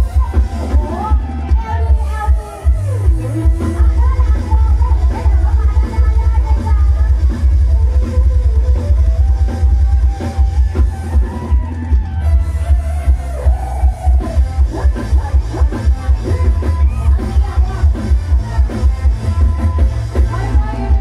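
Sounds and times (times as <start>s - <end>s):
live band music with heavy bass: 0.0s - 21.0s.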